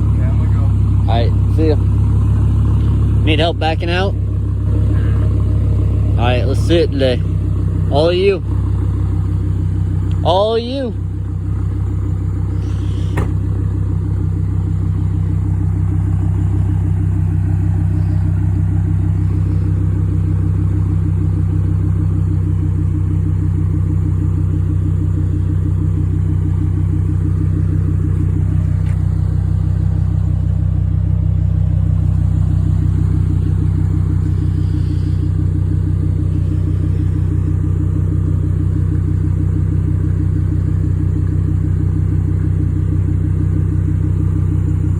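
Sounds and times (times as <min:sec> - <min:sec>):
loud car engine idling: 0:00.0 - 0:44.9.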